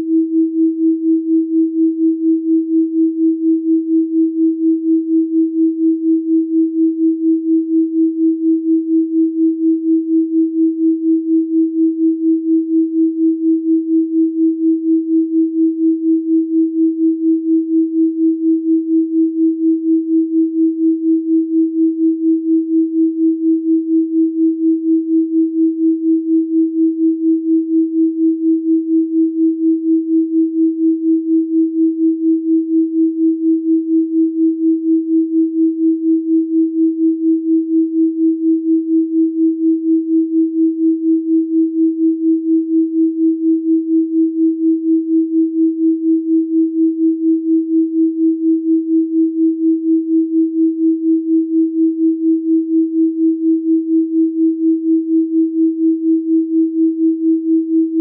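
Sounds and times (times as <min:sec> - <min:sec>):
pulsing sine tone: 0:00.0 - 0:58.0.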